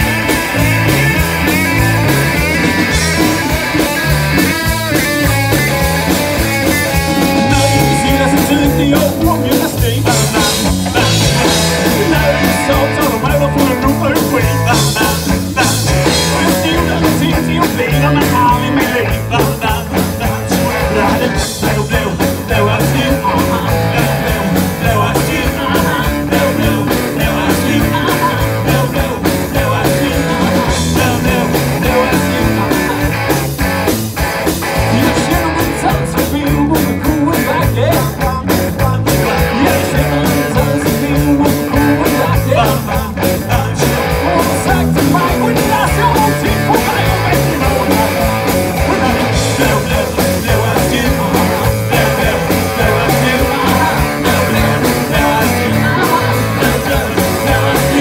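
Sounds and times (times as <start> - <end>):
bass guitar: 0.0 - 58.0
drum kit beat: 0.0 - 58.0
electric guitar: 0.0 - 58.0
man singing into microphone: 6.8 - 33.1, 34.8 - 58.0.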